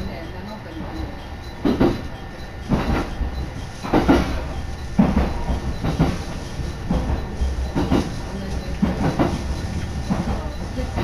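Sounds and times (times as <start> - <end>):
low train rumble: 0.0 - 11.0
train wheels clacking on rails: 0.0 - 11.0.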